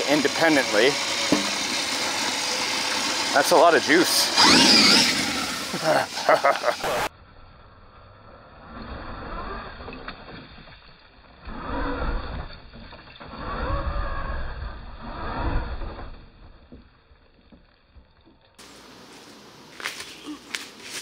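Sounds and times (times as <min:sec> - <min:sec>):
electric motor and gear whine: 0:00.0 - 0:17.1.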